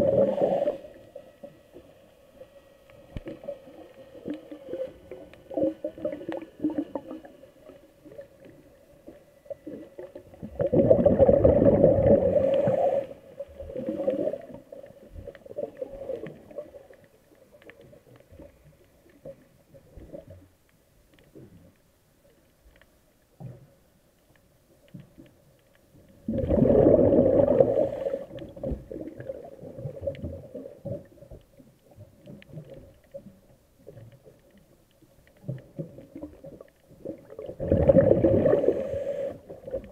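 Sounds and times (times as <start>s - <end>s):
exhaled bubbles underwater: 0.0s - 1.9s, 3.1s - 20.4s, 26.1s - 34.6s, 35.4s - 39.9s
underwater gurgling: 0.0s - 39.9s.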